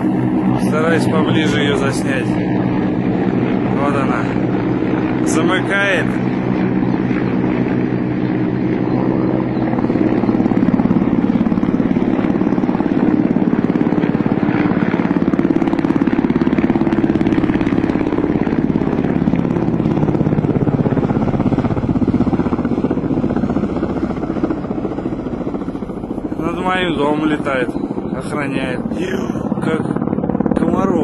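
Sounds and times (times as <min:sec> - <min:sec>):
helicopter rotors chopping: 0:00.0 - 0:31.0.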